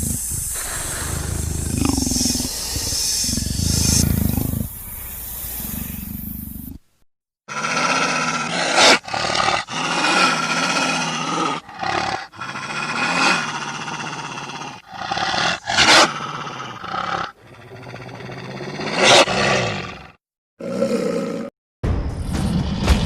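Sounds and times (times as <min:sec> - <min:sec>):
dinosaur growls and roars: 0:00.0 - 0:06.8, 0:07.5 - 0:21.5.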